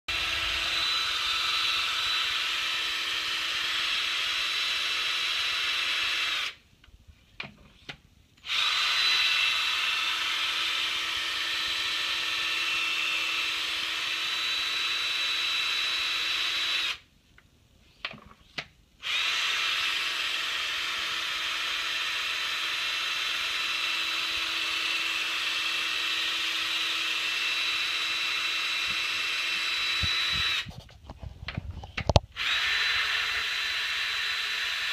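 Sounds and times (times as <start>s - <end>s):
power drill whining: 0.1s - 6.6s, 8.4s - 17.0s, 19.0s - 30.8s, 32.0s - 34.9s.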